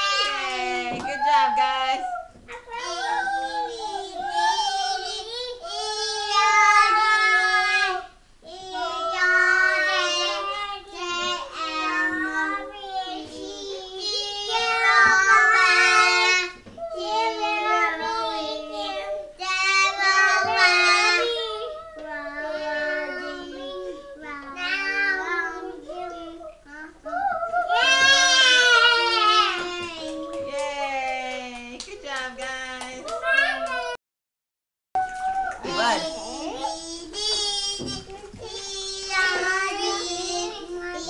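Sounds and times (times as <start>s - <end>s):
toddler singing held notes: 2.1s - 30.6s, 35.0s - 41.0s.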